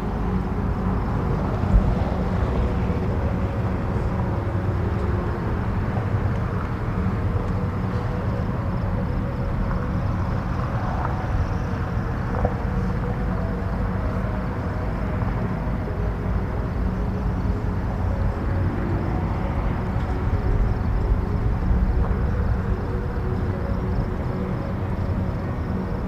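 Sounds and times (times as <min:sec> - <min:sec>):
low wind rumble: 0:00.0 - 0:26.0.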